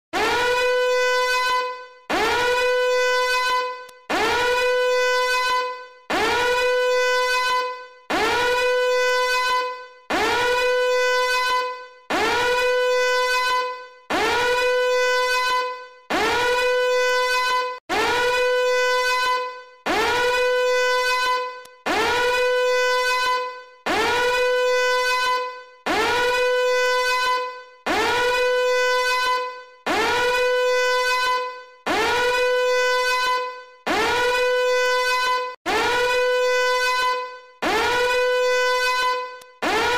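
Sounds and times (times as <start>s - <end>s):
fire alarm horn: 0.1s - 39.9s.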